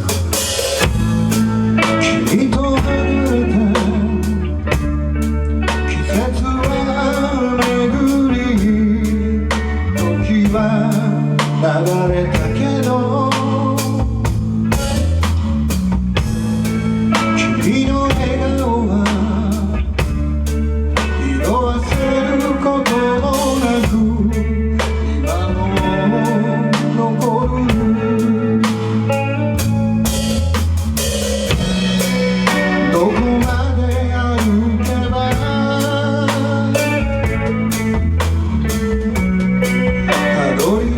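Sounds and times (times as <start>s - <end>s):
drum kit steady beat: 0.0s - 40.9s
electric guitar lead bending: 0.0s - 40.9s
rock band playing live: 0.0s - 40.9s.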